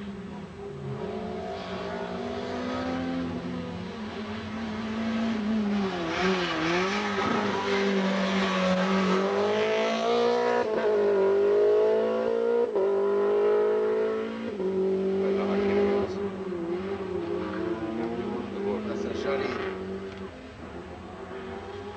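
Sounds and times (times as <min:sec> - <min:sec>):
race car engine at full throttle: 0:00.0 - 0:21.9.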